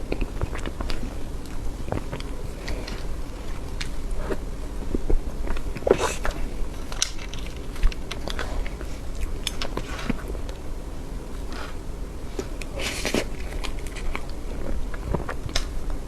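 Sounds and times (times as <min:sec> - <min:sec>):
person chewing cake: 0:00.0 - 0:16.0.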